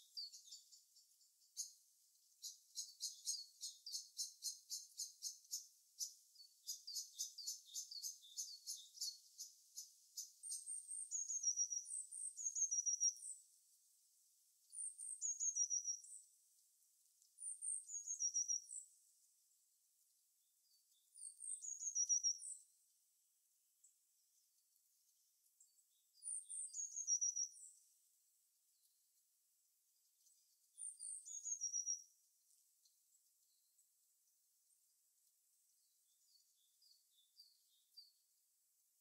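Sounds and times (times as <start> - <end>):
small songbirds singing: 0.0 - 39.0.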